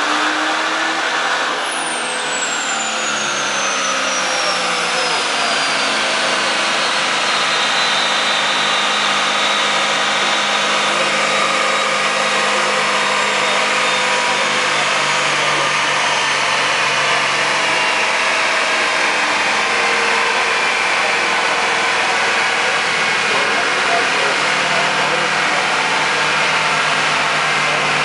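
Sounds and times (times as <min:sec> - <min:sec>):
diesel truck engine running hard: 0:00.0 - 0:28.0
high mechanical whine: 0:00.0 - 0:28.0.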